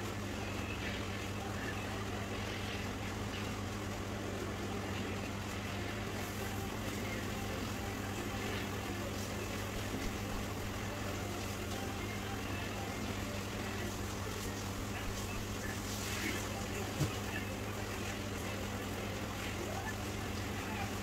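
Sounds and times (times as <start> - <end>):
constant background noise: 0.0 - 21.0.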